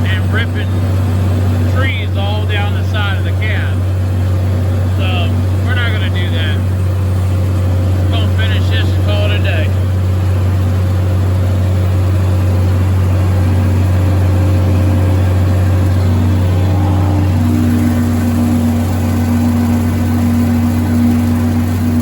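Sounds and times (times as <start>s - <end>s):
high steady whine: 0.0s - 22.0s
tractor engine drone: 0.0s - 22.0s.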